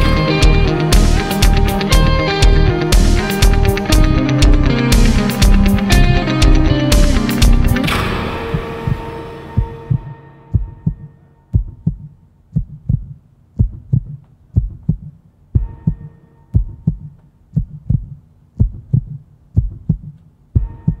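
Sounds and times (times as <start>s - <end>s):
heartbeat thumps: 0.0s - 21.0s.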